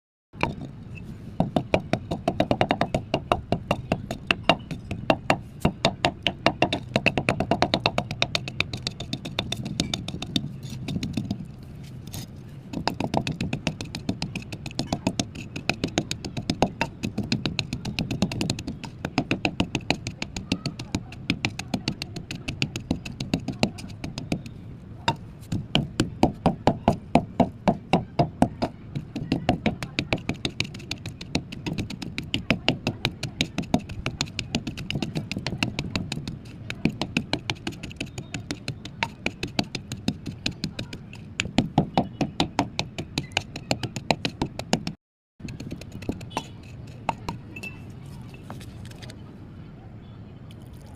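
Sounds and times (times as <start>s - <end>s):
mud being crushed: 1.4s - 49.2s.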